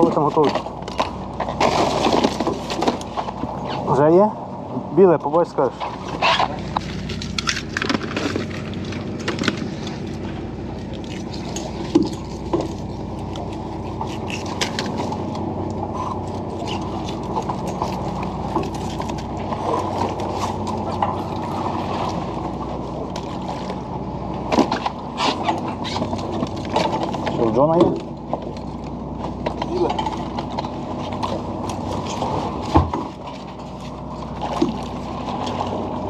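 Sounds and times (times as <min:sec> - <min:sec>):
water sloshing: 0:00.0 - 0:03.9, 0:05.3 - 0:36.0
boat engine droning: 0:00.0 - 0:36.0.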